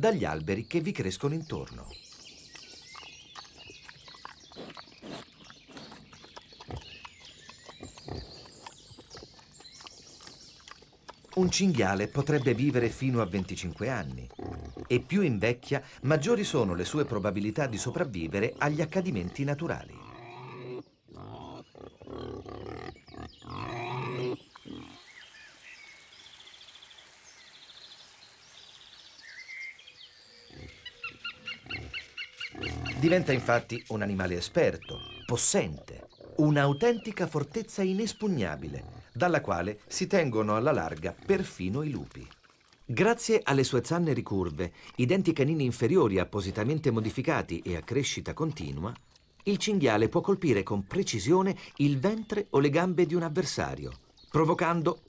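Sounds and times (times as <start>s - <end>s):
boar grunting: 1.6s - 25.1s, 30.4s - 55.0s.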